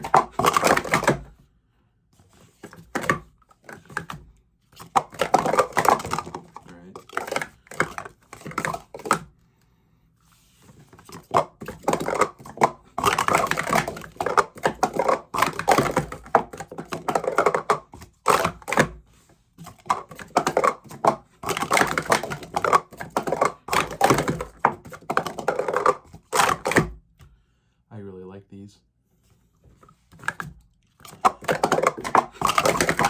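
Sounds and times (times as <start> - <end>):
plastic cups clattering: 0.0 - 1.4, 2.2 - 9.3, 10.6 - 19.0, 19.6 - 27.0, 29.8 - 33.0.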